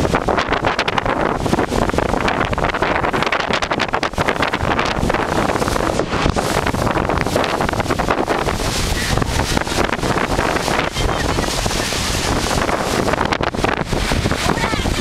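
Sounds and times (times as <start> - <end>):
gusty storm wind: 0.0 - 15.0.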